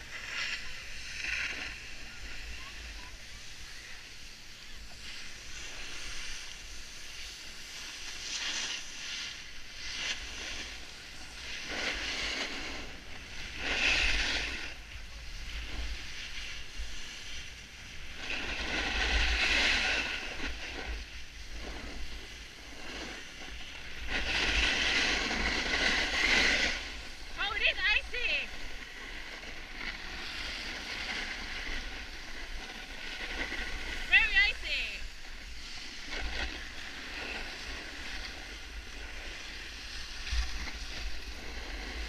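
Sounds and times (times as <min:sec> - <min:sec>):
skis scraping packed snow: 0:00.0 - 0:42.0
wind rumbling on microphone: 0:00.0 - 0:42.0.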